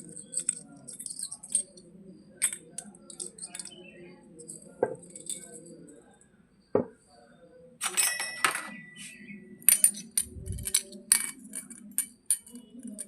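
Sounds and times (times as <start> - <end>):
small toy clinks: 0.0 - 6.0, 7.8 - 13.0.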